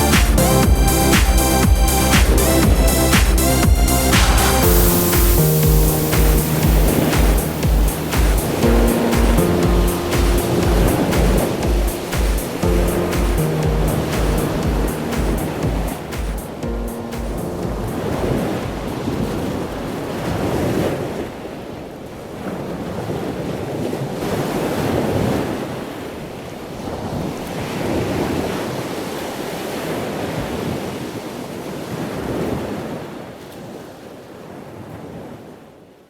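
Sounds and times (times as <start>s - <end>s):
waves breaking on beach: 0.0s - 35.7s.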